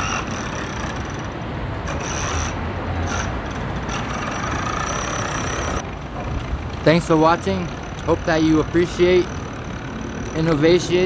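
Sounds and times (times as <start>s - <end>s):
passing vehicles hum: 0.0s - 11.0s.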